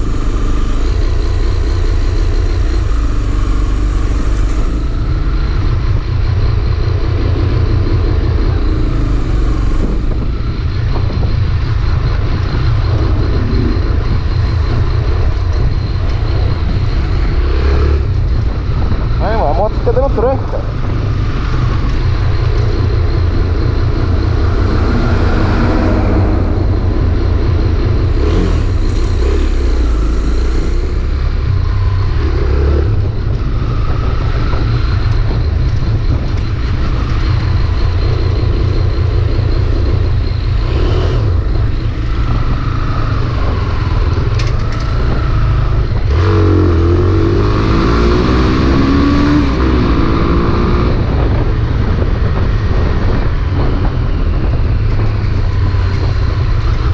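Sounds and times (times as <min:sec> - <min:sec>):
motorcycle engine running unevenly: 0:00.0 - 0:50.2.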